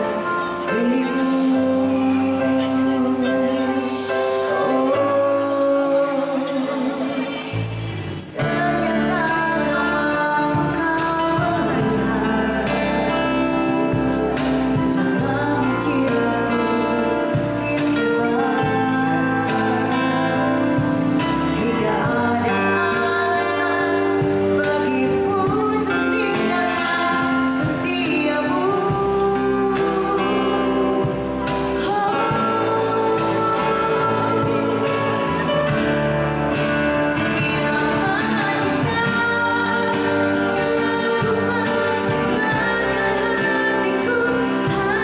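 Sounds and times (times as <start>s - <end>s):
live band with keyboard: 0.0s - 45.0s
woman singing into a microphone: 0.0s - 45.0s.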